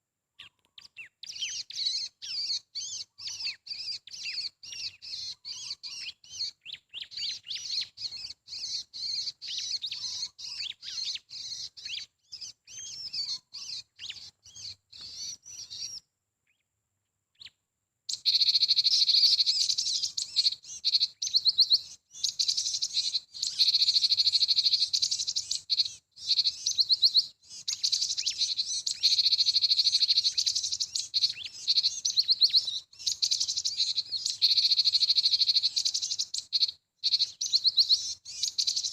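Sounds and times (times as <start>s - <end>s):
songbirds chirping: 0.4s - 38.9s.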